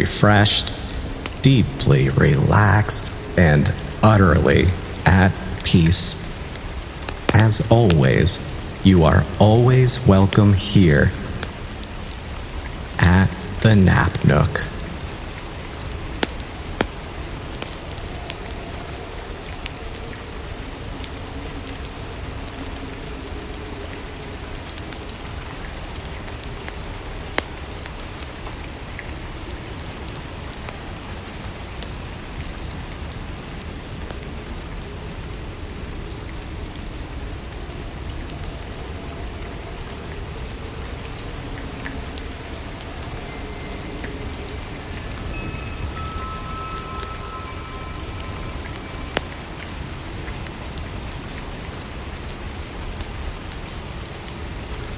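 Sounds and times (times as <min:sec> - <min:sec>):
sharp ticks of raindrops: 0:00.0 - 0:54.9
steady rainfall: 0:00.0 - 0:54.9.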